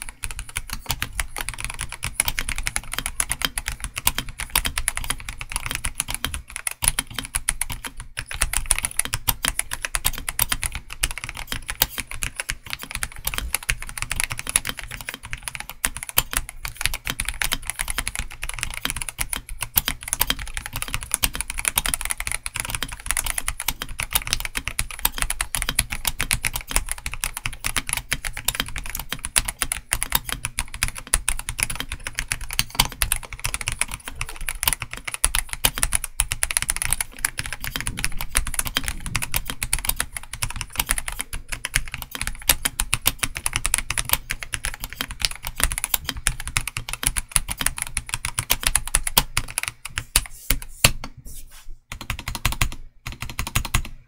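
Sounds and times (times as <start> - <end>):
fast mechanical keyboard typing: 0.0 - 51.1, 51.9 - 54.0.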